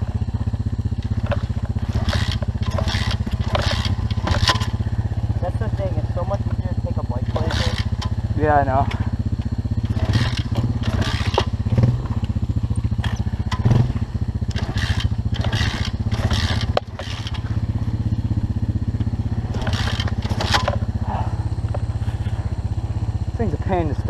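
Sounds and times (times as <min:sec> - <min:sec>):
motorbike engine idling: 0:00.0 - 0:24.0.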